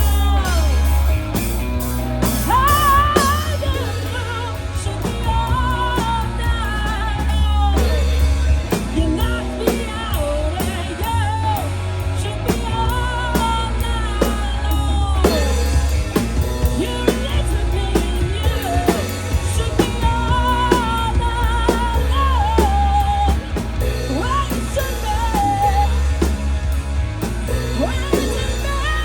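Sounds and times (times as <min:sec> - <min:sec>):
drum kit: 0:00.0 - 0:29.0
guitar: 0:00.0 - 0:29.0
heavy bass line: 0:00.0 - 0:29.0
rock song with singer: 0:00.0 - 0:29.0.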